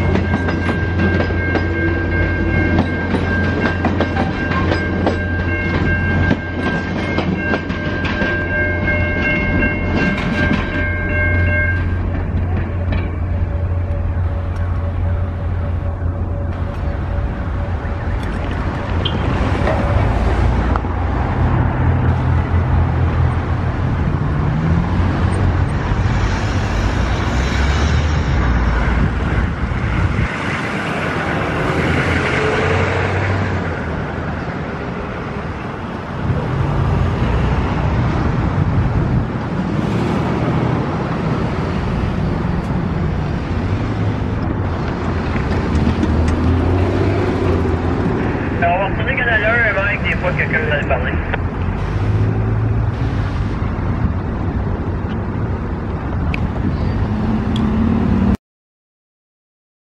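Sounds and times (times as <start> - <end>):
train rumbling past: 0.0 - 58.4.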